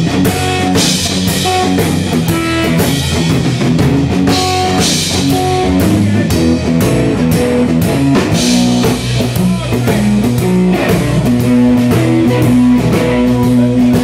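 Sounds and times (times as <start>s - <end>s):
drum kit beat: 0.0s - 14.0s
electric guitar riff: 0.0s - 14.0s.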